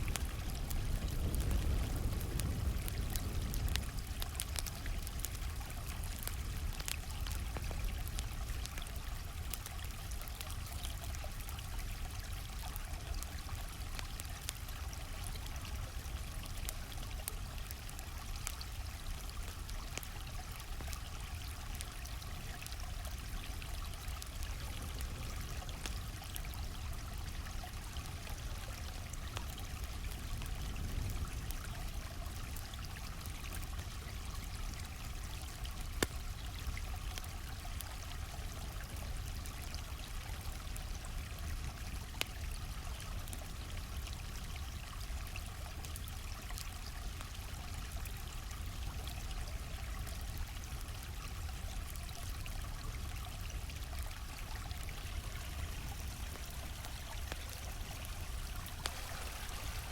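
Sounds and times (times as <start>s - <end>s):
campfire crackling: 0.0s - 59.9s
stream flowing: 3.2s - 59.9s.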